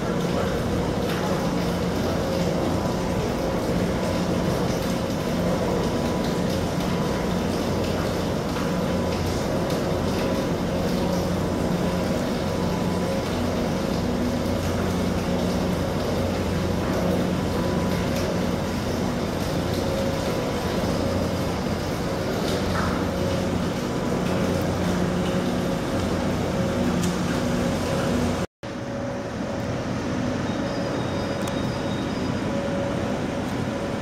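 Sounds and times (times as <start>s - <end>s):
ship lift machinery drone: 0.0s - 34.0s.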